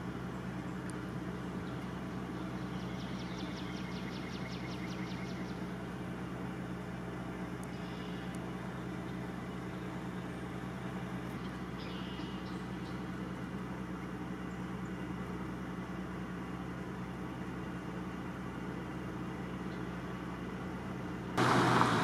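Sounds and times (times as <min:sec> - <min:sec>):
water pump engine drone: 0:00.0 - 0:22.0.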